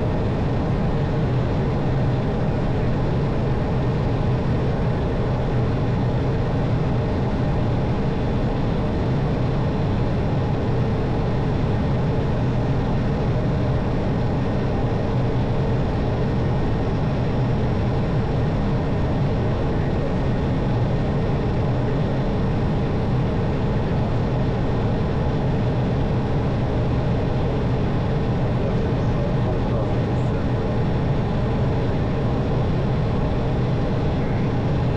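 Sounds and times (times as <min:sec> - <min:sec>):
airliner engine drone: 0:00.0 - 0:34.9.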